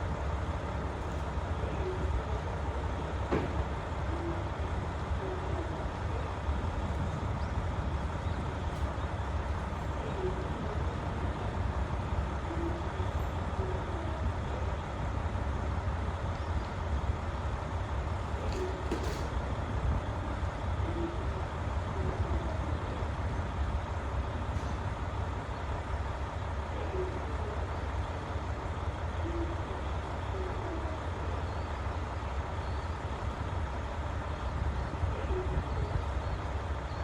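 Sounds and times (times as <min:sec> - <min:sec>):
diesel railcar engines rumbling: 0:00.0 - 0:37.0.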